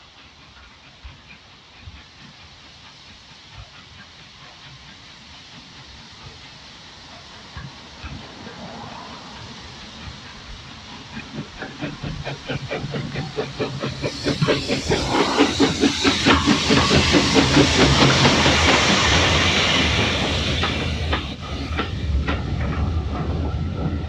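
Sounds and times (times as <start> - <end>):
steam hissing: 0.0 - 24.0
steam locomotive exhaust beats: 0.0 - 24.0.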